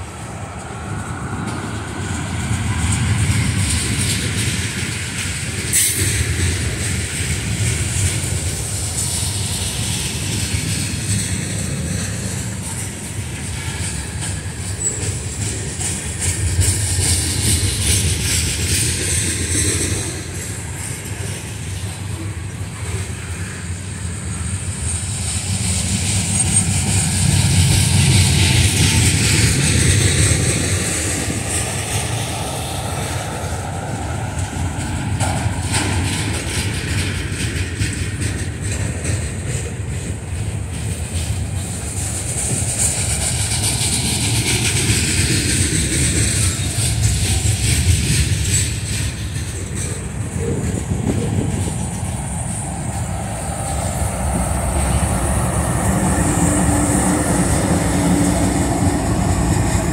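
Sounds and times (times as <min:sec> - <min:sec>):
freight train cars rolling: 0:00.0 - 0:59.9.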